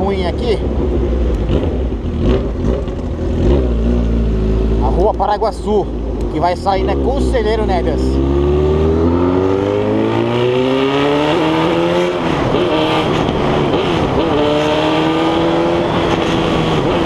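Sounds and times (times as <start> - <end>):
motorcycle engine revving: 0.9 - 17.0.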